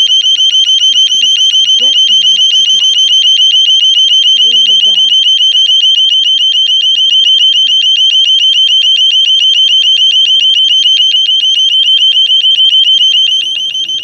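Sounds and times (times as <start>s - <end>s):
burglar alarm pulsing beep: 0.0s - 14.0s.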